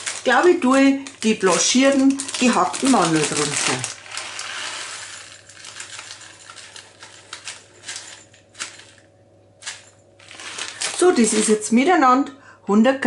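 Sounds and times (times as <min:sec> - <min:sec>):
nuts pouring into glass bowl: 0:00.0 - 0:09.0, 0:09.6 - 0:11.6
plastic bag rustling: 0:00.0 - 0:11.8.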